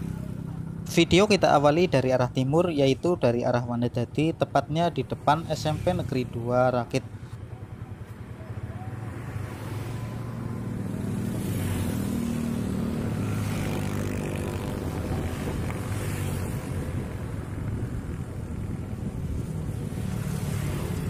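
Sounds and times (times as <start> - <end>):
road noise: 0.0 - 21.0
vehicles passing: 0.0 - 21.0.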